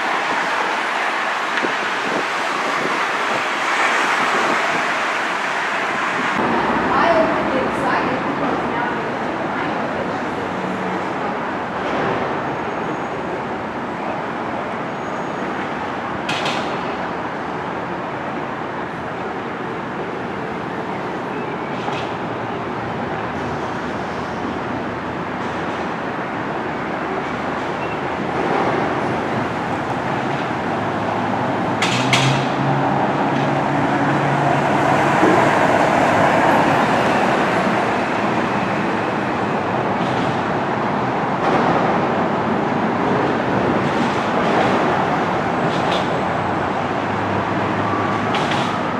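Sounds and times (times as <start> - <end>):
rumble of traffic: 0.0 - 48.9.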